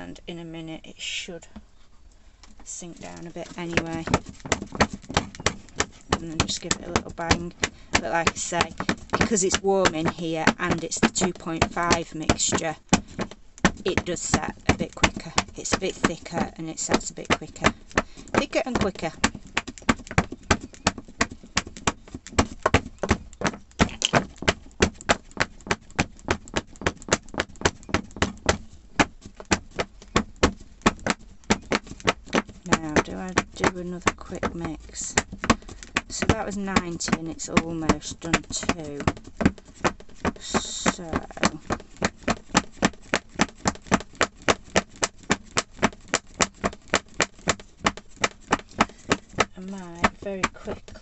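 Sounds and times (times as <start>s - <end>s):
hand tapping silicone mould: 2.8s - 51.0s.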